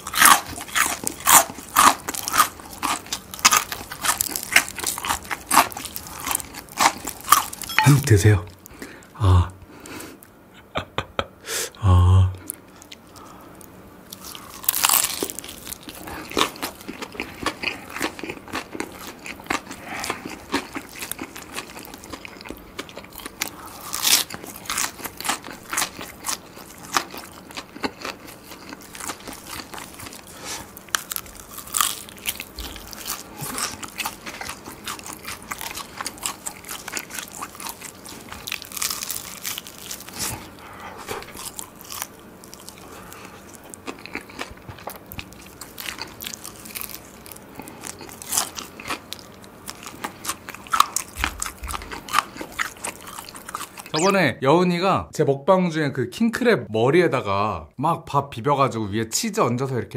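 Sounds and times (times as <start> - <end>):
crunchy fried chicken bites: 0.0 - 8.0, 12.4 - 54.1.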